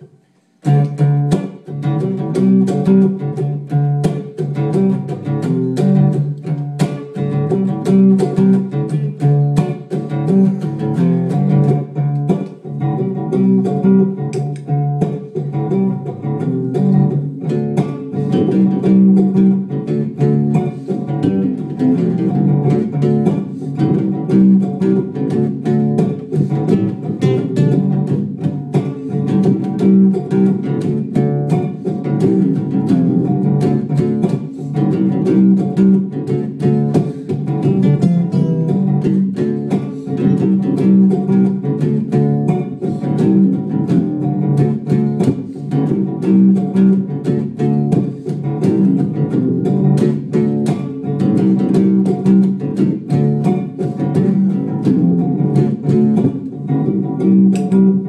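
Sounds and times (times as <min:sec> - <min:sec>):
acoustic guitar strummed reggae rhythm: 0:00.0 - 0:58.0.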